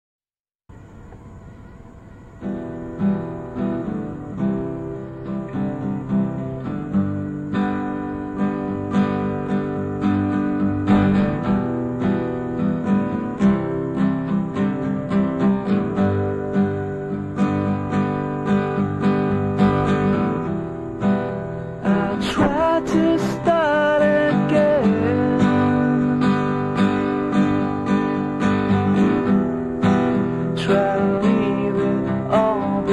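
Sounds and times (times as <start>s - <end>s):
acoustic guitar strumming: 0.7s - 32.9s
tape hiss: 0.7s - 32.9s.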